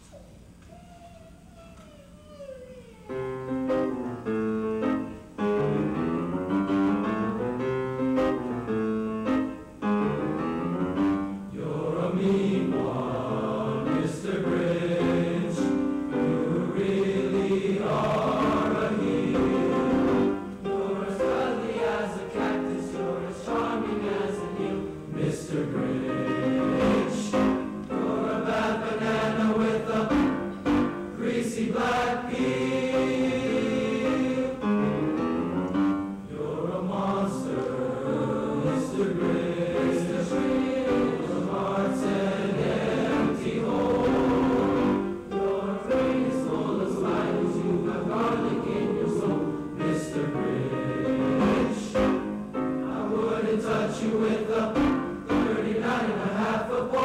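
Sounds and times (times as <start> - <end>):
choir singing in parts: 11.0 - 57.0.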